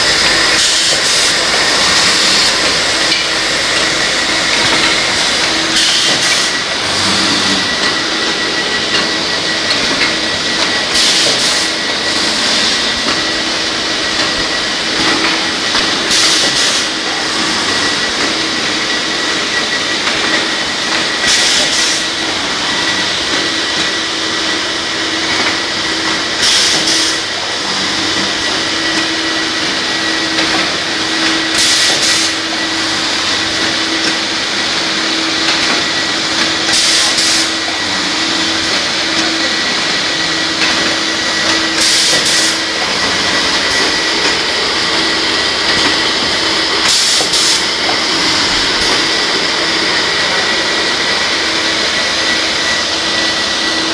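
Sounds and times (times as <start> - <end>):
drilling machine hum: 0.0 - 53.9.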